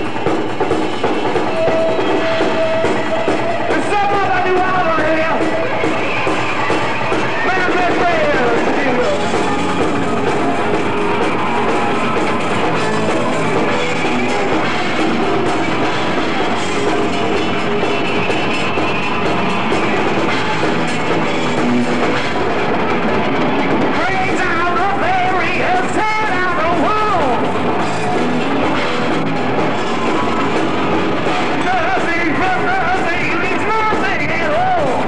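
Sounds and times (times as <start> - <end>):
drum kit: 0.0 - 35.0.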